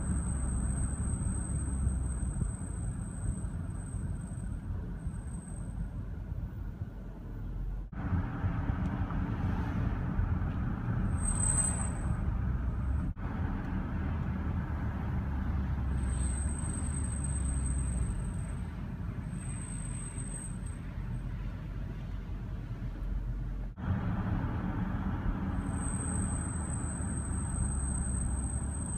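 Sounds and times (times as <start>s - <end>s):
brakes squealing: 0.0s - 6.5s, 7.4s - 28.9s
road and cabin noise: 0.0s - 28.9s.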